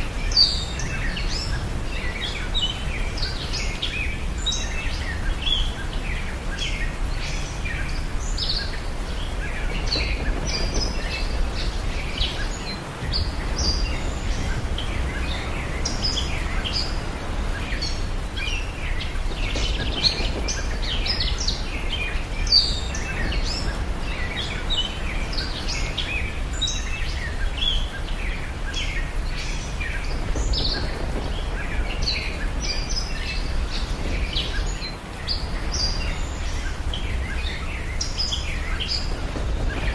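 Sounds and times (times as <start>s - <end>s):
birds chirping: 0.1s - 39.9s.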